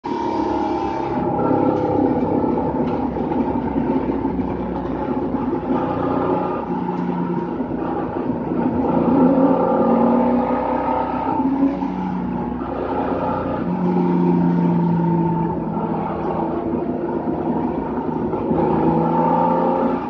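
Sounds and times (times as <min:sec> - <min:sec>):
race car engine running: 0:00.0 - 0:20.0.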